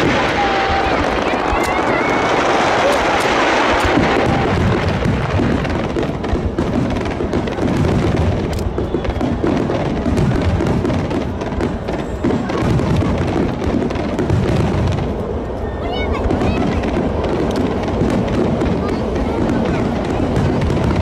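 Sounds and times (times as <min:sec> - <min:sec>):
fireworks booming and crackling: 0:00.0 - 0:21.0.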